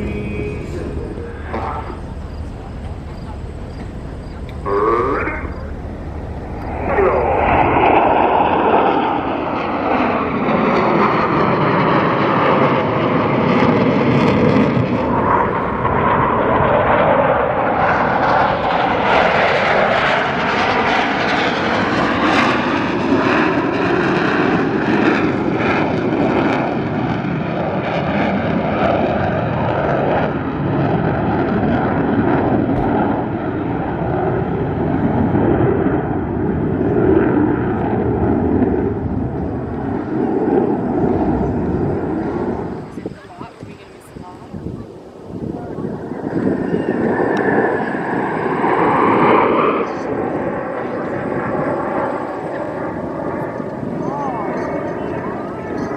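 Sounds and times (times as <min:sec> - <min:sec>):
jet engines flying overhead: 0:00.0 - 0:55.9.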